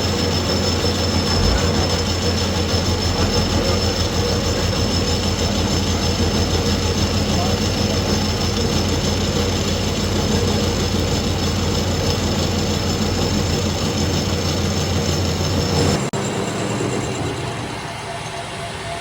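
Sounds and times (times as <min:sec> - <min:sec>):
workshop machine humming: 0:00.0 - 0:16.4
quieter machine noise: 0:00.0 - 0:19.0.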